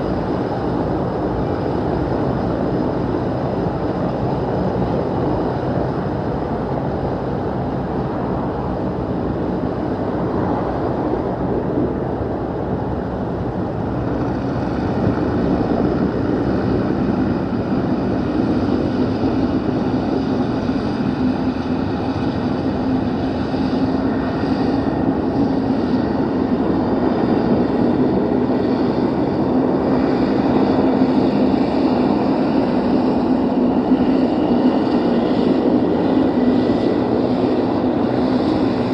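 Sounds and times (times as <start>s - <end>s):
high turbine whine: 0.0s - 38.9s
propeller drone: 0.0s - 38.9s.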